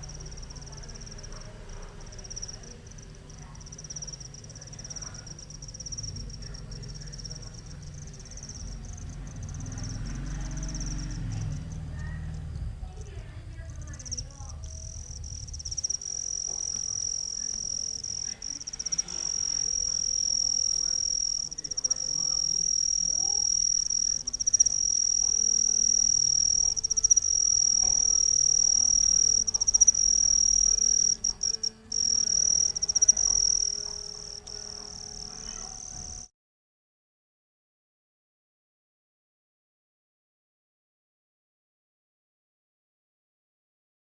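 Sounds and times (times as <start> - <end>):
cricket trilling: 0.0 - 36.3.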